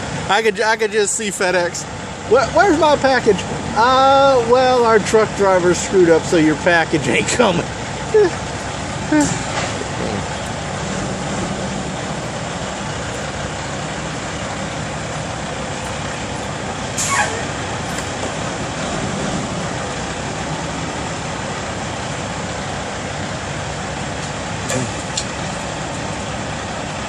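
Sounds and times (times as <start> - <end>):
traffic: 0.0 - 27.0
truck engine idling: 0.0 - 27.0.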